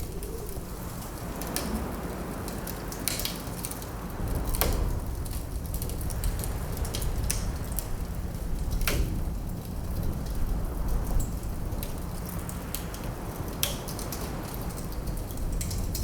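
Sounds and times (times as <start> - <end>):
low wind rumble: 0.0 - 16.0
wood fire crackling: 0.0 - 16.0.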